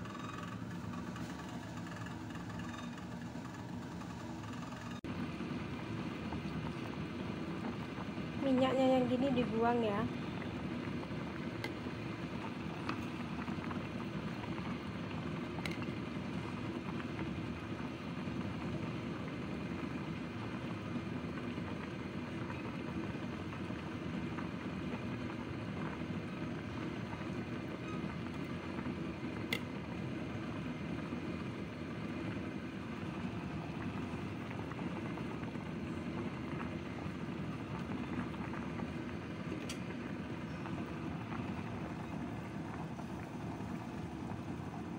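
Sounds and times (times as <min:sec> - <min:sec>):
soup boiling in a pot: 0:00.0 - 0:44.9.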